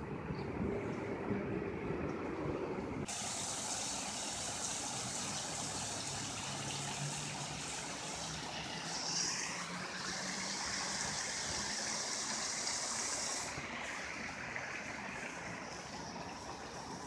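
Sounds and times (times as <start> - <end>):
fountain water splashing: 3.0 - 17.0.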